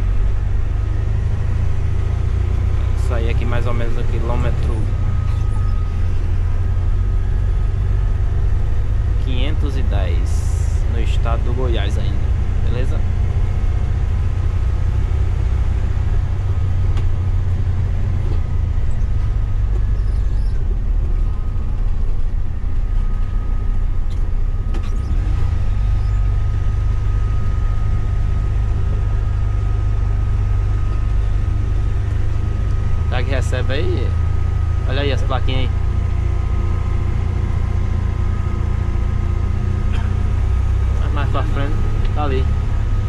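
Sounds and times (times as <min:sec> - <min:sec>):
bus engine and road drone: 0:00.0 - 0:43.0
faint steady whine: 0:00.0 - 0:43.0.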